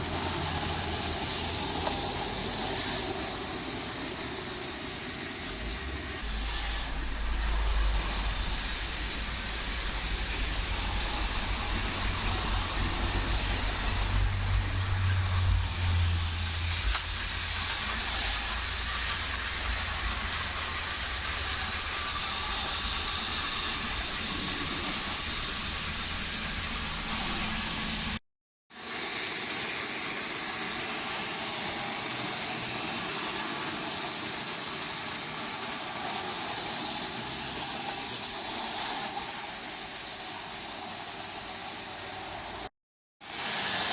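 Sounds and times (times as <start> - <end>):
toy train motor whir: 0.0 - 43.9.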